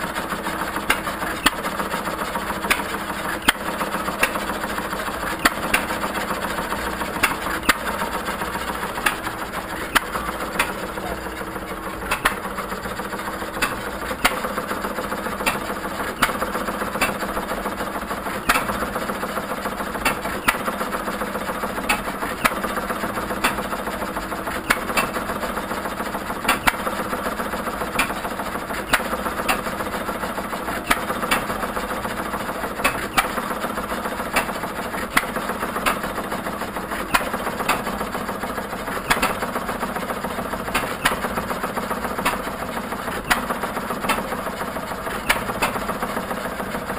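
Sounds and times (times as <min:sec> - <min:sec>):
mechanical clatter of engines: 0:00.0 - 0:46.9.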